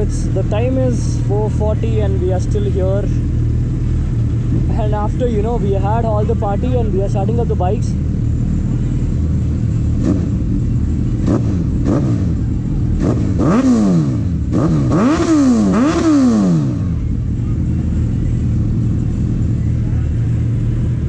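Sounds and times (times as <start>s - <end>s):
motorcycle engine revving: 0.0s - 21.0s
motorcycle engines idling: 0.0s - 21.0s.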